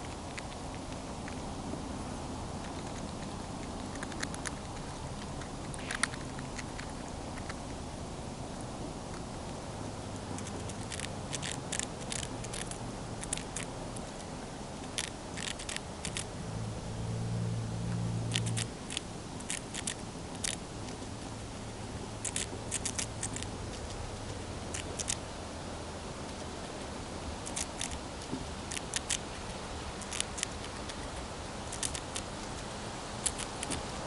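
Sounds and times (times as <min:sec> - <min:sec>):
chipmunk crunching snack: 0:00.0 - 0:01.6, 0:02.4 - 0:07.8, 0:08.5 - 0:09.5, 0:10.2 - 0:16.4, 0:17.9 - 0:21.3, 0:22.0 - 0:25.2, 0:26.3 - 0:34.0
low steady hum: 0:00.0 - 0:34.0.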